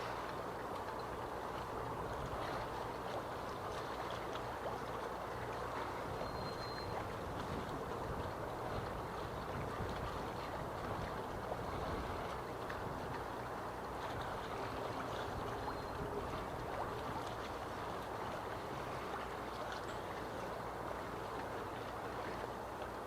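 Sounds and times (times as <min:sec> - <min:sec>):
waves lapping and splashing: 0:00.0 - 0:23.0.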